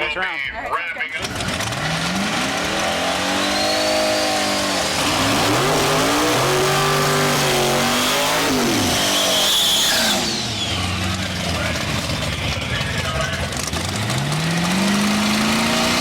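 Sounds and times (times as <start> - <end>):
engine accelerating hard: 1.2 - 16.0.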